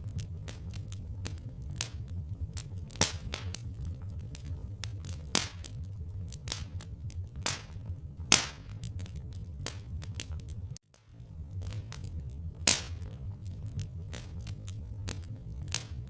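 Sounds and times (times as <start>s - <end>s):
fire pops: 0.0s - 16.0s
low rumble: 0.0s - 16.0s
wood fire crackling: 0.0s - 16.0s.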